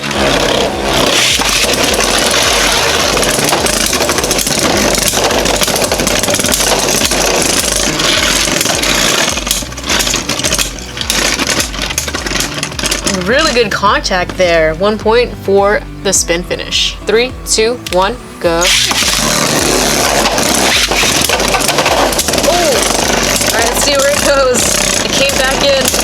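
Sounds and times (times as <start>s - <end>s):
tops clicking and knocking: 0.0s - 15.8s, 17.1s - 26.0s
spinning tops whirring: 0.0s - 26.0s.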